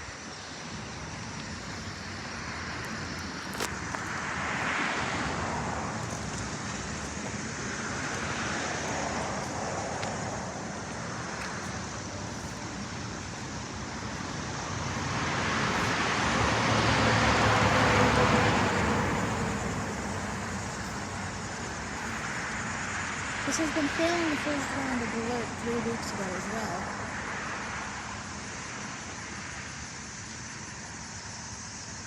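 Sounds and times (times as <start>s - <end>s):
cars passing: 0.0s - 32.0s.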